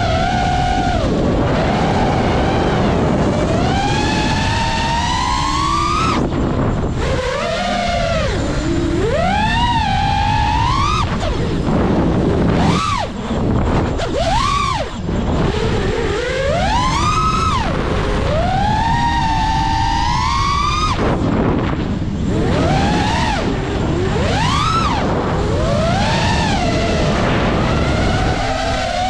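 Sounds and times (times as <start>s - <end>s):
drone motors whining: 0.0s - 29.0s
rush of wind: 0.0s - 29.0s.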